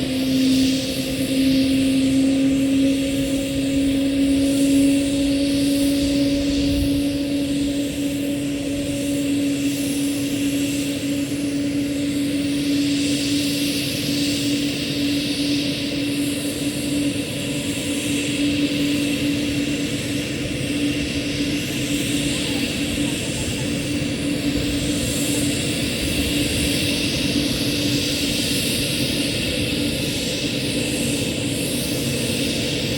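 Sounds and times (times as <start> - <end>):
helicopter engine high tone: 0.0 - 32.9
helicopter rotor noise: 0.0 - 32.9.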